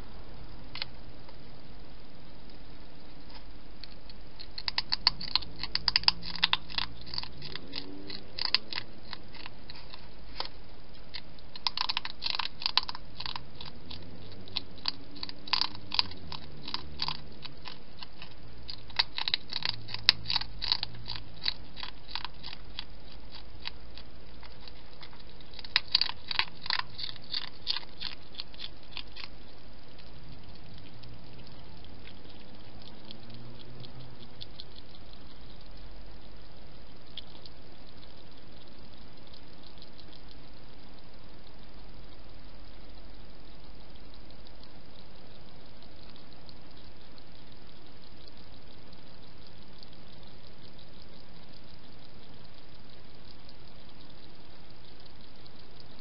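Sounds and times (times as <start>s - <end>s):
hedgehog crunching food: 0.7s - 0.9s, 3.2s - 56.0s.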